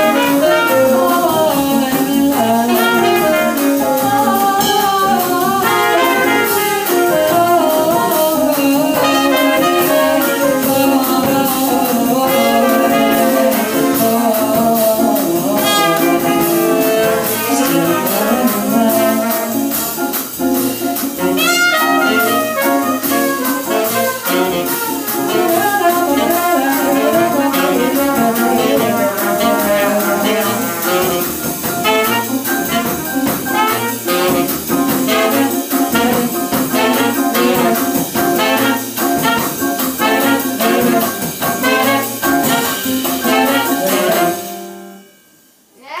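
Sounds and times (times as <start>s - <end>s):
saxophone: 0.0s - 45.1s
trumpet: 0.0s - 45.6s
piano: 0.0s - 45.7s
steady cymbal beat: 0.0s - 45.7s.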